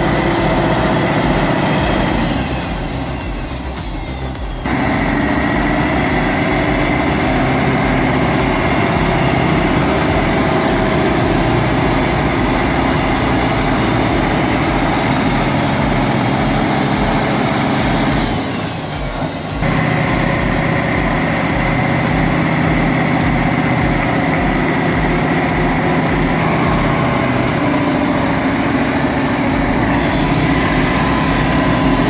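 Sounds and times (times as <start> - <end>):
vehicle engine whining: 0.0 - 32.0.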